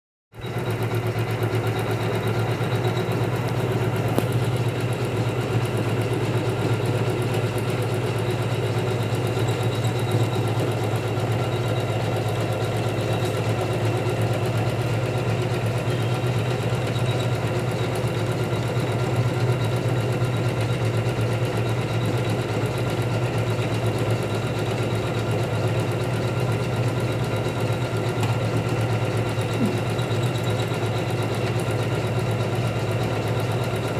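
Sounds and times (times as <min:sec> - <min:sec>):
embroidery machine stitching: 0:00.4 - 0:33.9.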